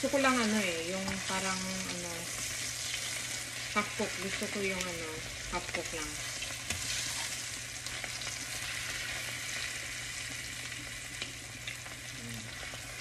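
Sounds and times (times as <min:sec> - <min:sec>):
steak sizzling in butter: 0:00.0 - 0:13.0.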